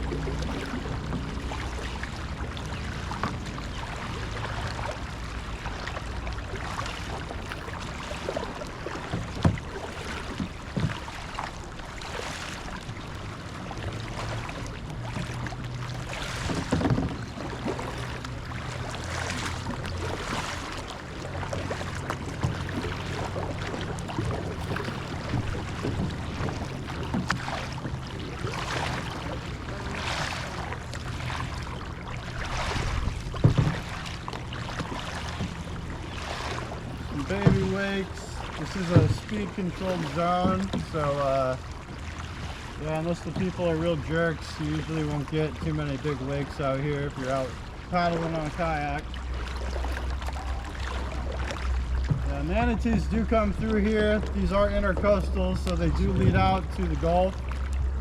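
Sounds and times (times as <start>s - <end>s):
low steady hum: 0.0s - 58.0s
paddles splashing in water: 0.0s - 58.0s.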